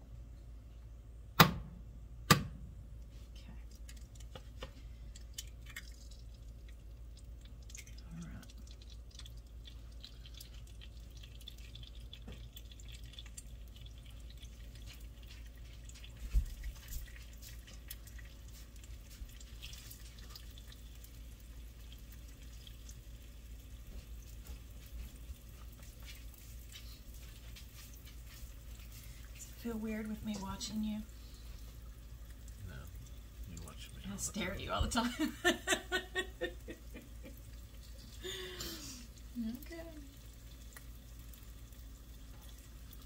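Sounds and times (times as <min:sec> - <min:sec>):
egg frying with crackling pops: 0:01.4 - 0:03.1, 0:03.7 - 0:43.0.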